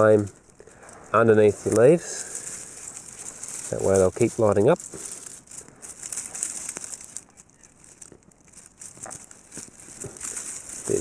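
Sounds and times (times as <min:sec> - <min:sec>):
dry leaves and twigs crinkling: 0:00.0 - 0:11.0.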